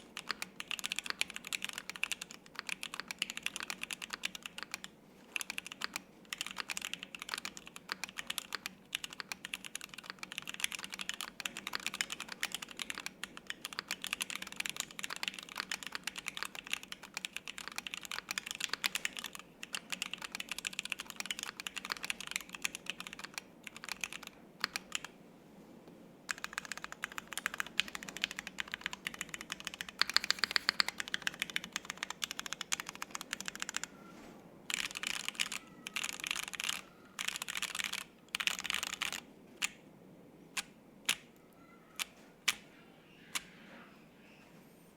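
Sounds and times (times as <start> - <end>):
fast typing on mechanical keyboard: 0.0 - 25.1, 26.3 - 33.9, 34.7 - 39.8.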